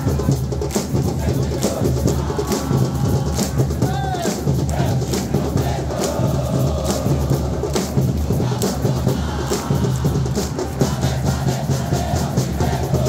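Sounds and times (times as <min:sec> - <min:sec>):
bass drums pounding: 0:00.0 - 0:13.0
crowd chanting in unison: 0:00.0 - 0:13.0.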